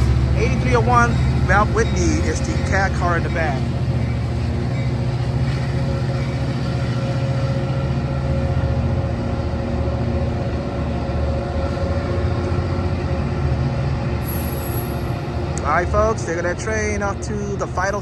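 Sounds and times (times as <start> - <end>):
diesel locomotive drone: 0.0 - 18.0.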